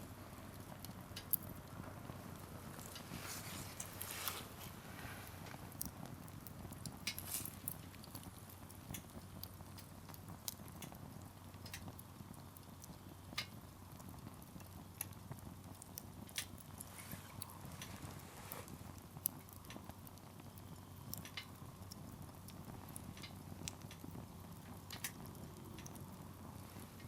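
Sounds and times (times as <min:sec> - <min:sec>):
low rumble of flames: 0:00.0 - 0:27.0
campfire pops and snaps: 0:00.5 - 0:27.0.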